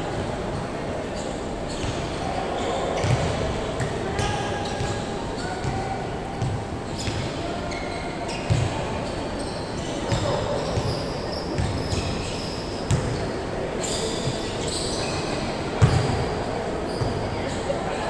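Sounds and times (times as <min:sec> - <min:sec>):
sneakers squeaking: 0:00.1 - 0:18.0.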